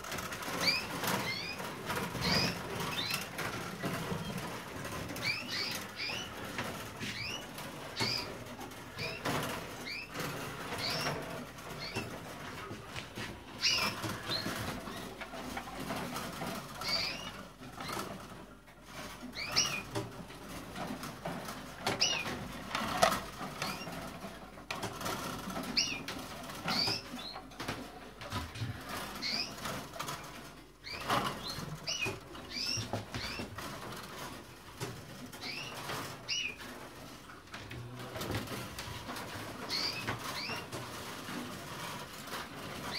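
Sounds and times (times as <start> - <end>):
canaries chirping: 0.0 - 42.9.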